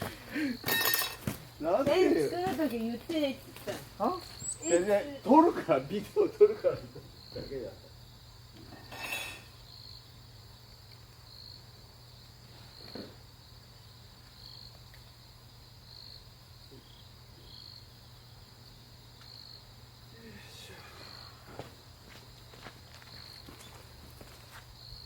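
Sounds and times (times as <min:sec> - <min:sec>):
insect chirping: 0:00.0 - 0:25.0.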